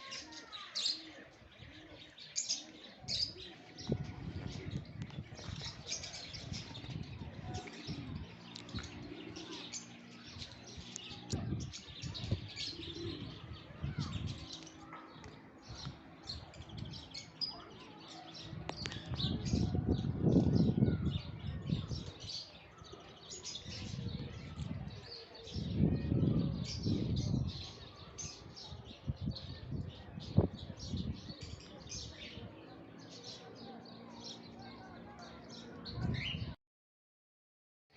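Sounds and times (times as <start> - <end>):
many birds chirping: 0.0 - 36.6.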